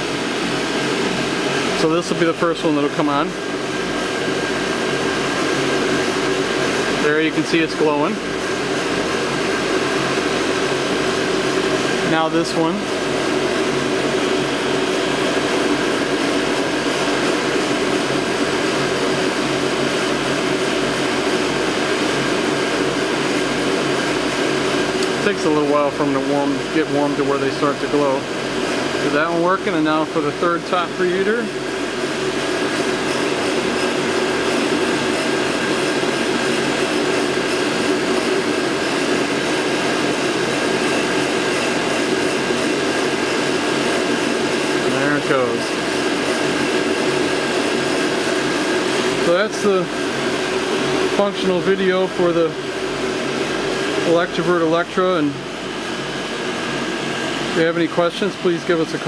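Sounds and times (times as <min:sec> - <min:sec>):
machine whirring: 0:00.0 - 0:59.0.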